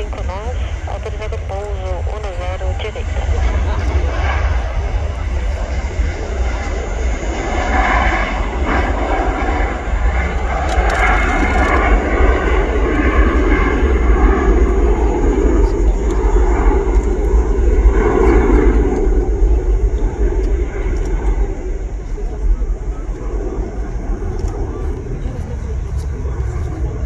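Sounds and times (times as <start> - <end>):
jet engine takeoff roar: 0.0 - 27.0.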